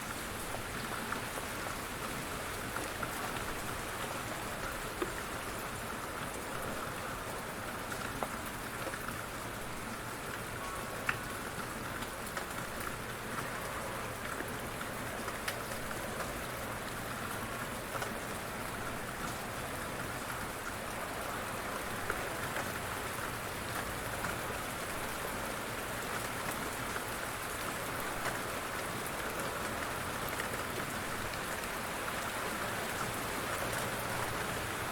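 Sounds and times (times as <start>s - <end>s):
light rain patter: 0.0s - 34.9s.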